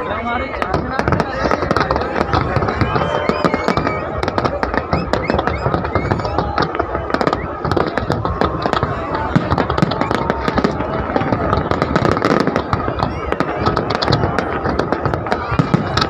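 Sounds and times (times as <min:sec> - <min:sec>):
crowd voices: 0:00.0 - 0:16.0
fireworks crackling and popping: 0:00.0 - 0:16.0.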